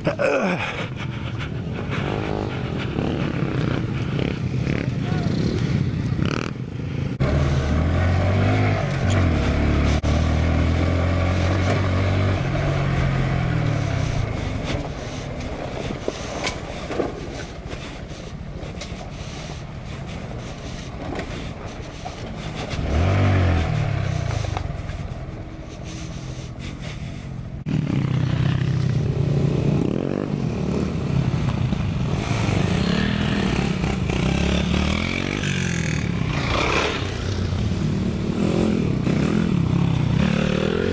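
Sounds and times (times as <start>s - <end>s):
minibike engine revving: 0.6s - 40.9s.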